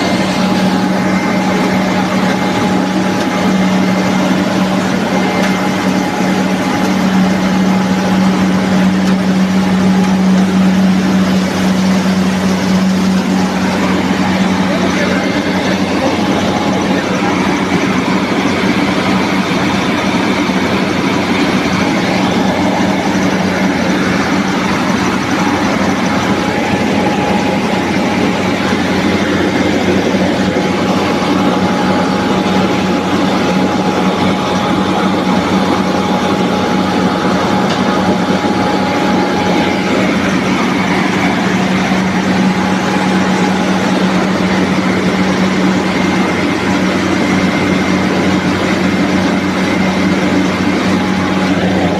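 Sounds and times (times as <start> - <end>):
rice milling machine droning: 0.0 - 51.9.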